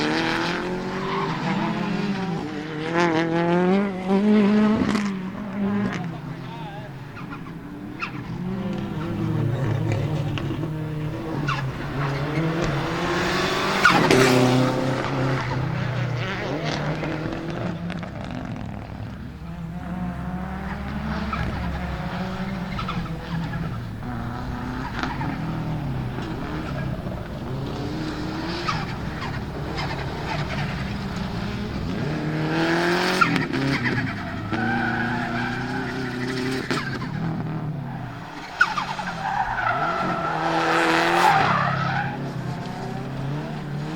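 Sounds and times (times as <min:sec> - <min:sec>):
rally car engine revving: 0:00.0 - 0:43.9
tyres skidding: 0:00.0 - 0:43.9.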